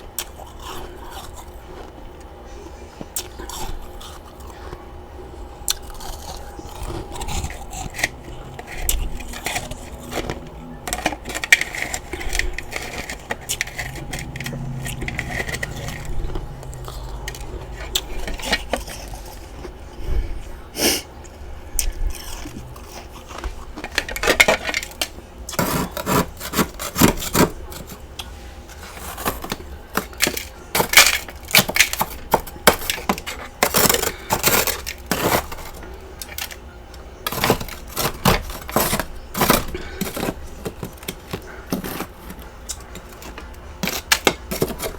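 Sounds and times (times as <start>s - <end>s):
chewing crunchy frost: 0.0s - 44.9s.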